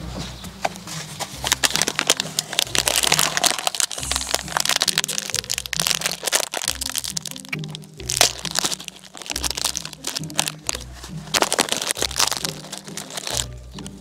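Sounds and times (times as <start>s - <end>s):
background music: 0.0s - 14.0s
plastic packet crinkling: 1.4s - 13.9s.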